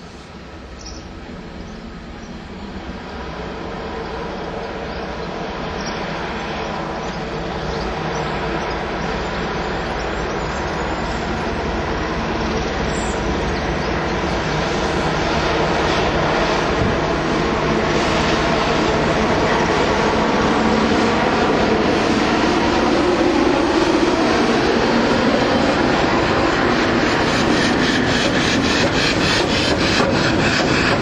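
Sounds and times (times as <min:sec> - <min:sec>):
diesel locomotive passing: 0:00.0 - 0:31.0.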